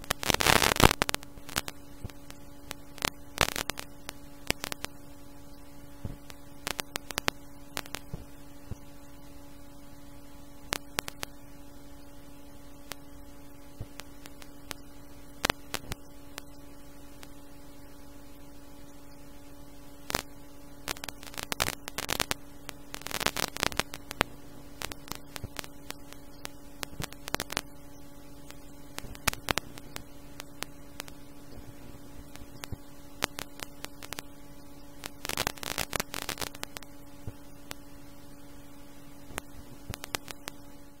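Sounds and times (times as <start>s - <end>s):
crackling radio static: 0.0s - 41.0s
steady electrical hum: 0.0s - 41.0s.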